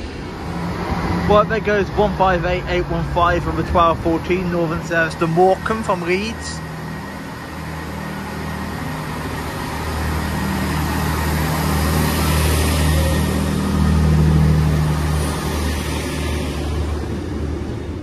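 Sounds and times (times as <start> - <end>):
passenger train passing: 0.0 - 18.0.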